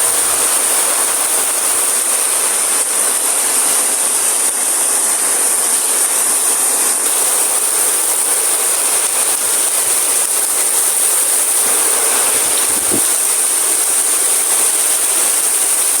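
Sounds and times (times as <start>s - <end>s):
heavy rain in strong wind: 0.0s - 16.0s.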